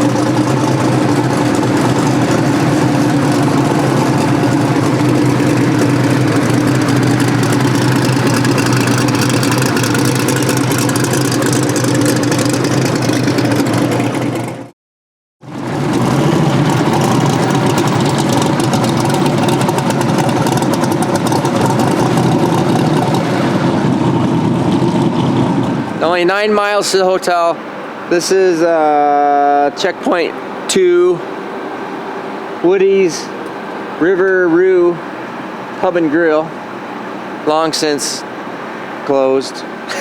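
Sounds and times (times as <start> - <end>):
vehicle engine and road drone: 0.0 - 14.8, 15.4 - 40.0.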